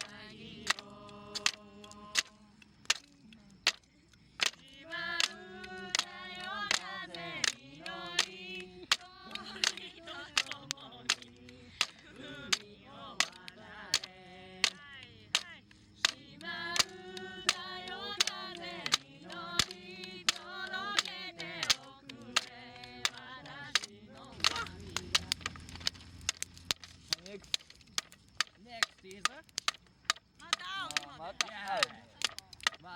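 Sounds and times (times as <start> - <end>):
group singing: 0.0 - 26.4
hand clapping: 0.0 - 32.9.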